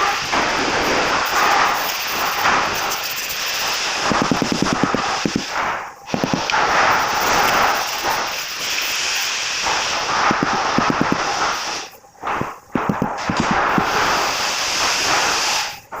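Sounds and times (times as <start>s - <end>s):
rapid mechanical hammering: 0.0s - 16.0s
steady hissing noise: 0.0s - 16.0s.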